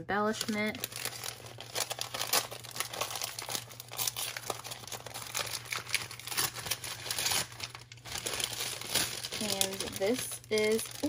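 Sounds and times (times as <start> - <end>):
plastic sleeve crinkling: 0.3 - 11.0.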